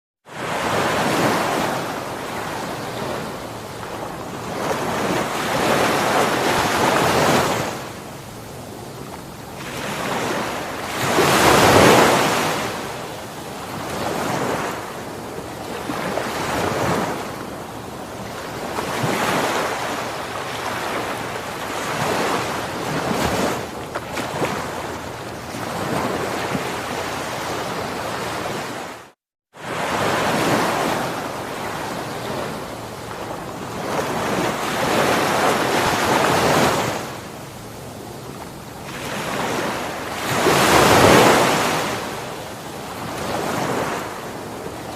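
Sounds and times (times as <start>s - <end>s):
ocean waves breaking: 0.2s - 44.9s.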